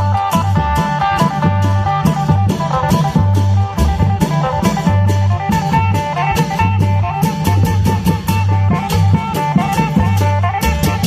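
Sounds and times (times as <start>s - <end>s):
drum and cymbal strokes: 0.0s - 11.0s
long-drum band playing: 0.0s - 11.0s.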